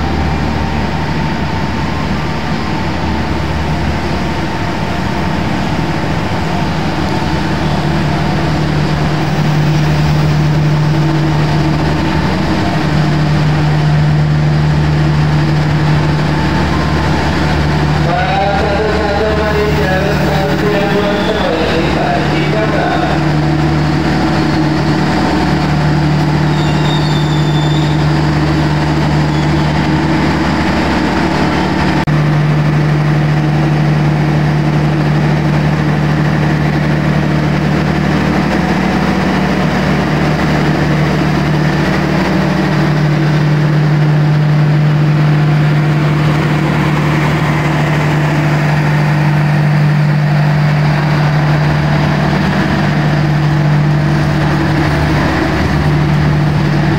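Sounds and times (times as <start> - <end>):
diesel engine hum: 0.0 - 56.9
train rolling slowly: 0.0 - 56.9.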